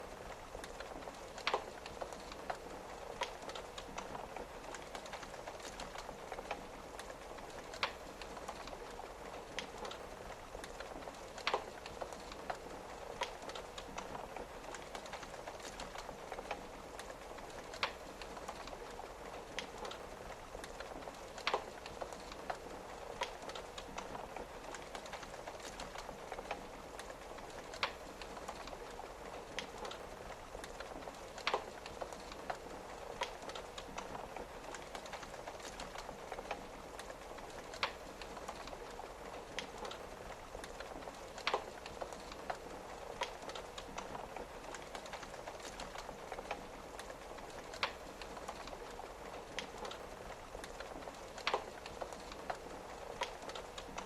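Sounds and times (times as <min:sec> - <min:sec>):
rain on a window: 0:00.0 - 0:54.0
wood fire crackling and popping: 0:00.0 - 0:54.0.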